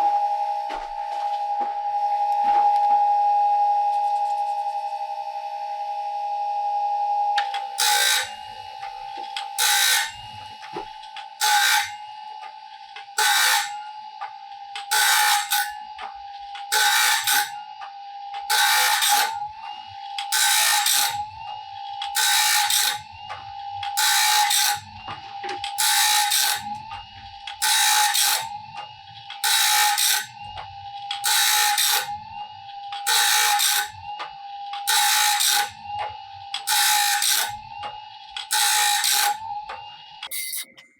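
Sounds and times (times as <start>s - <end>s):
blade sharpener whine: 0.0s - 40.9s
grinding wheel on saw teeth: 7.4s - 40.8s.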